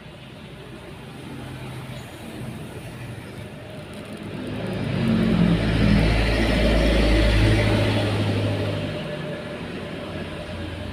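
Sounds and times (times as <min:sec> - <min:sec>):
vehicle engine passing by: 0:01.2 - 0:10.9.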